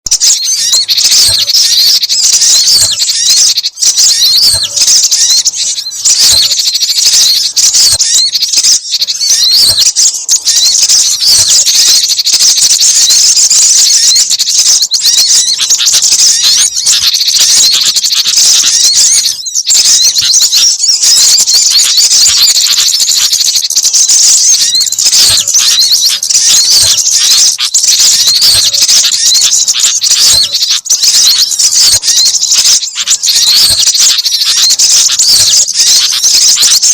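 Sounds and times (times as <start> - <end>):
small birds chirping and twittering: 0.0 - 36.9.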